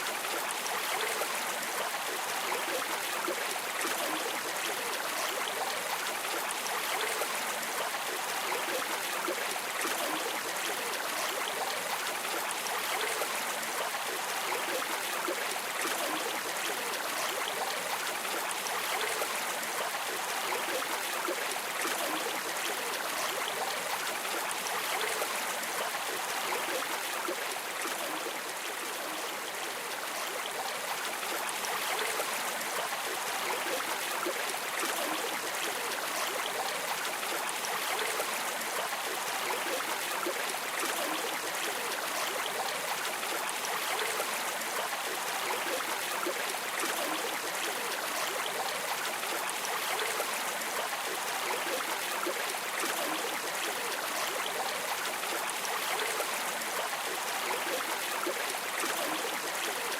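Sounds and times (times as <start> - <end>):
river water streaming: 0.0 - 59.9.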